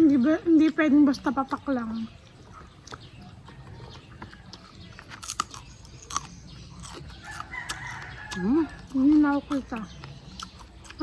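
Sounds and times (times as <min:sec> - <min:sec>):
chewing and biting food: 0:00.0 - 0:11.0.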